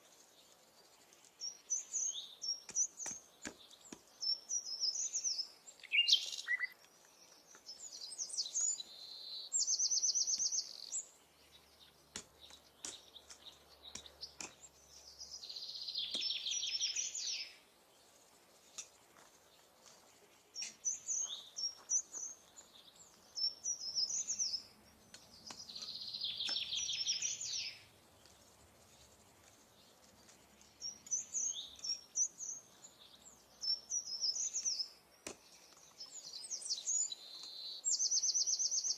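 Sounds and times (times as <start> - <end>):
songbird singing trilling phrases: 0.4 - 19.7, 20.4 - 38.9.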